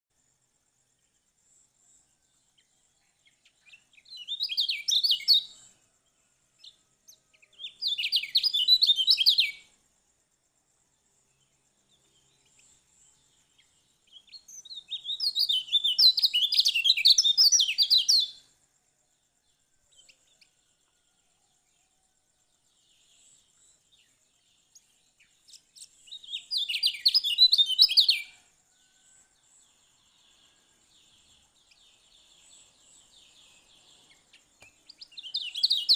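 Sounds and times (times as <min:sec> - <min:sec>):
bird twittering song: 0:00.9 - 0:35.9.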